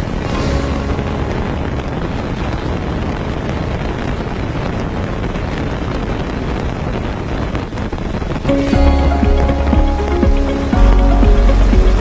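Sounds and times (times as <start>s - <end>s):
fireworks crackling and rumbling: 0.0s - 12.0s.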